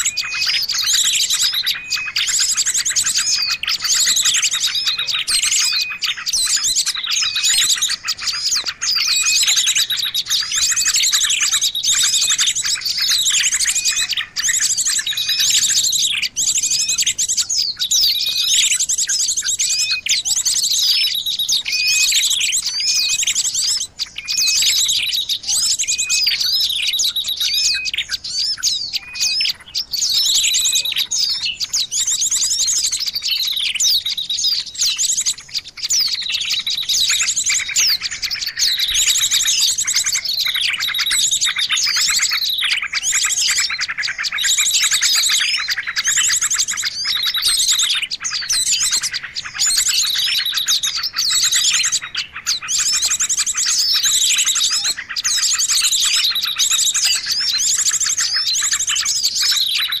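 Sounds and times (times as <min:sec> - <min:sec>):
songbirds chirping and trilling: 0:00.0 - 1:00.0.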